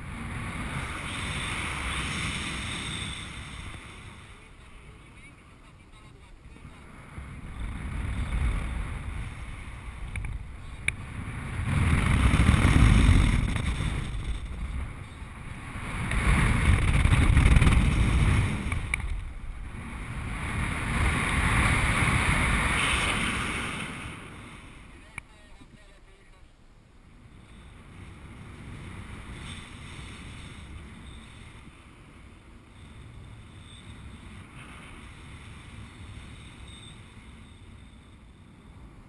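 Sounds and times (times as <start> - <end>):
wind rushing over microphone: 0.0 - 25.8, 26.8 - 39.0.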